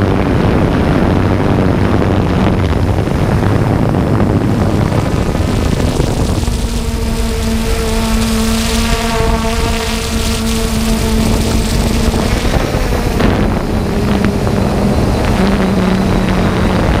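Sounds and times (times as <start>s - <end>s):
drone propellers humming: 0.0s - 17.0s
wind over microphone: 0.0s - 17.0s.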